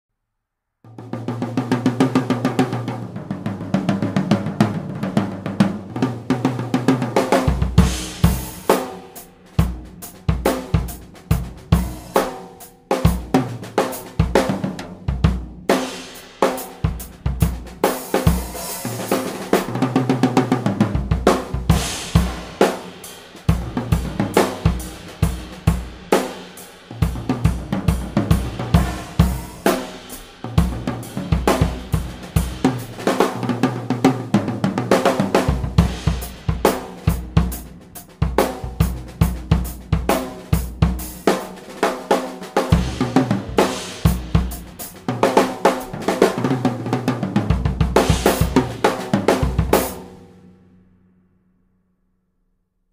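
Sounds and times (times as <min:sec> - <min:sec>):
drum kit playing a steady beat: 0:00.9 - 0:50.5.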